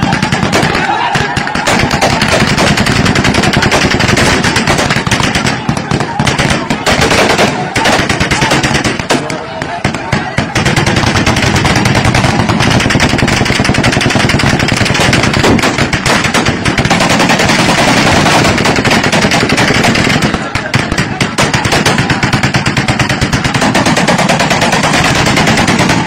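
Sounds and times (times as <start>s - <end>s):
rapid gunfire: 0.0s - 26.0s.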